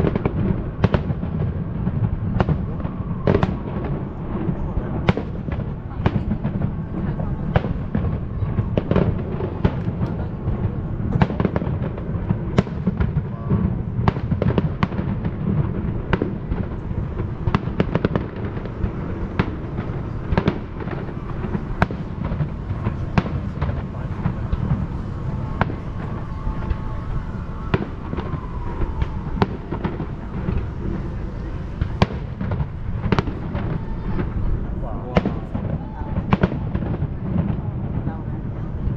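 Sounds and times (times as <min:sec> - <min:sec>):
fireworks bangs and crackles: 0:00.0 - 0:38.9
low rumble: 0:00.0 - 0:38.9.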